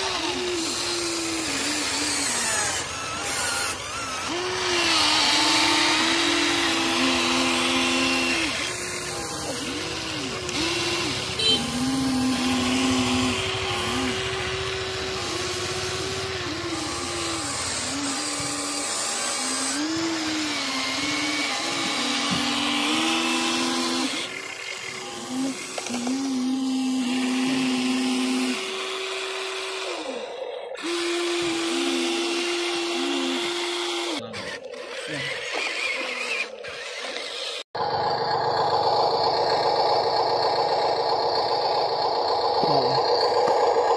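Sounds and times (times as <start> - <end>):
electric motors whining: 0.0 - 43.9.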